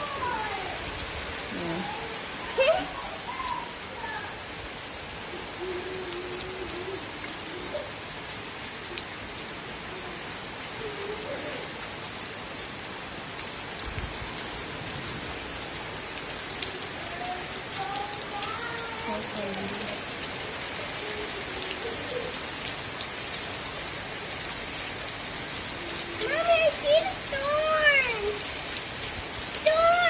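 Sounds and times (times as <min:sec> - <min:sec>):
heavy rain: 0:00.0 - 0:30.0
raindrops ticking close by: 0:00.0 - 0:30.0.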